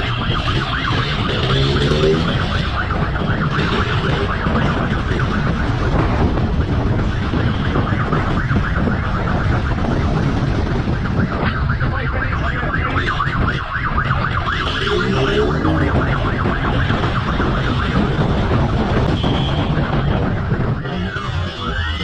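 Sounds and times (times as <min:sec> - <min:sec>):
emergency vehicle siren: 0:00.0 - 0:22.0
vehicle and road noise: 0:00.0 - 0:22.0.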